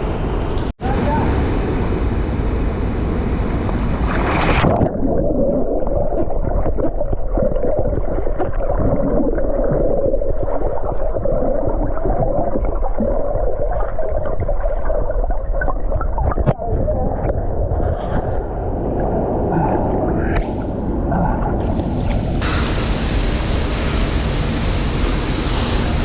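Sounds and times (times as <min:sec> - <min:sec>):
water rushing and splashing: 0:00.9 - 0:26.0
underwater rumble and gurgling: 0:03.5 - 0:26.0.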